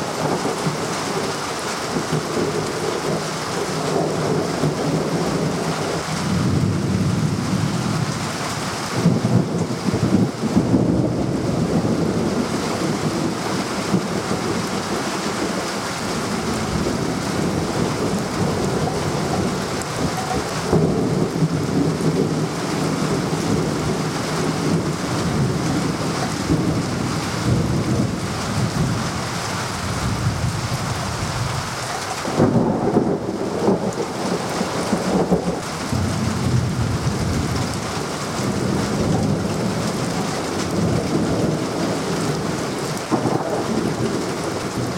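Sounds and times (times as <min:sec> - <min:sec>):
heavy rain: 0:00.0 - 0:44.9
rolling thunder: 0:00.0 - 0:44.9.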